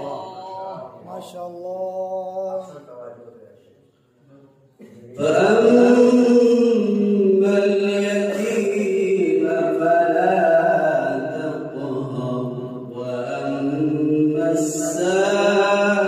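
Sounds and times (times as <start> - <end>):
man chanting melodically: 0.0 - 3.4, 5.0 - 16.0.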